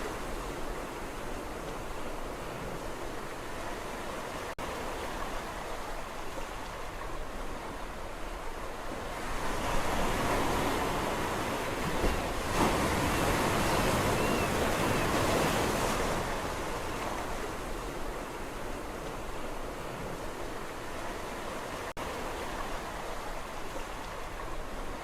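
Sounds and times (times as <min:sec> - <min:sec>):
sea waves breaking on shore: 0:00.0 - 0:25.0.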